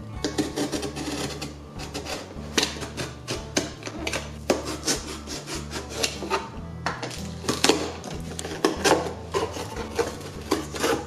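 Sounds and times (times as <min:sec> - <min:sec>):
knife cutting cardboard: 0:00.2 - 0:11.0.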